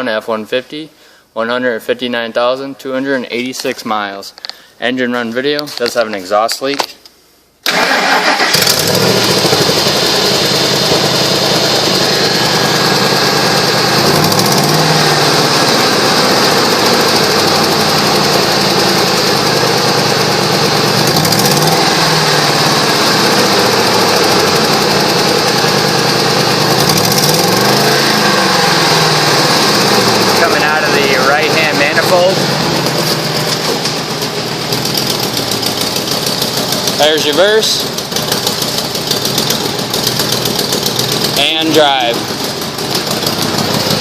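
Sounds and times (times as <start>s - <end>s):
truck engine starting and idling: 7.6s - 44.0s.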